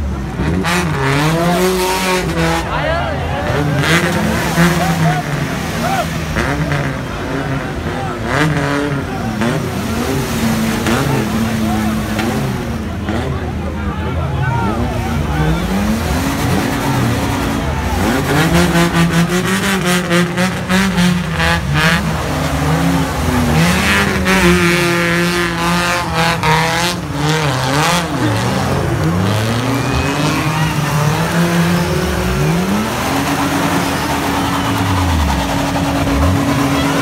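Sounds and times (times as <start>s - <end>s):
off-road engines revving: 0.0s - 37.0s.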